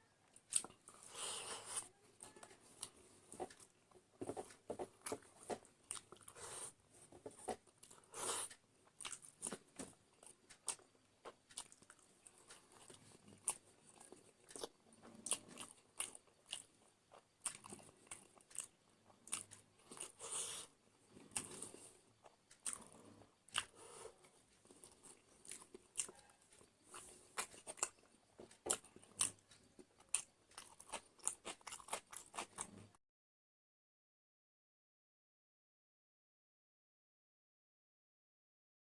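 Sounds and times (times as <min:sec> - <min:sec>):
person chewing crunchy food: 0:00.3 - 0:33.0.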